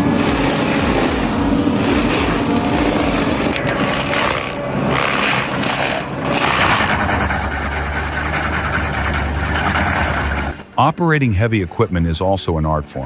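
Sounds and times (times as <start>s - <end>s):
wood crushing and grinding: 0.0s - 10.8s
heavy machine engine: 0.0s - 10.9s.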